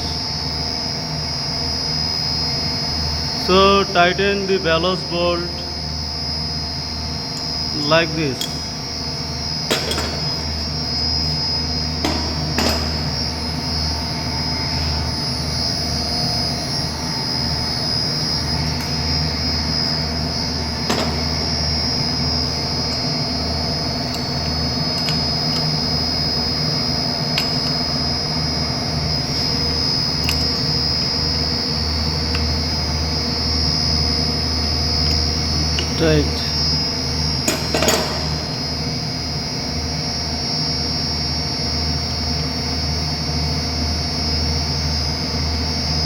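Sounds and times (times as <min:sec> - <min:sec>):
pumps droning and whining: 0:00.0 - 0:46.0.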